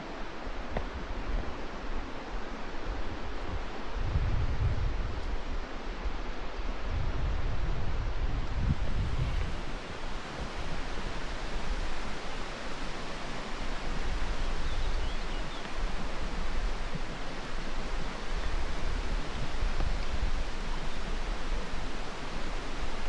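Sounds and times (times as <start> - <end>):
wind buffeting on microphone: 0.0 - 23.0.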